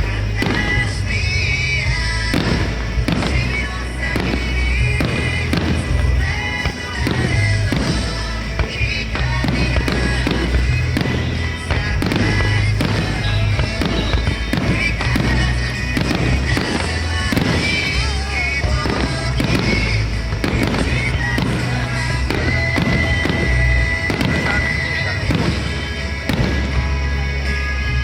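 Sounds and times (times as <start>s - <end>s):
fireworks bangs and crackles: 0.0s - 28.0s
music with steady bass: 0.0s - 28.0s.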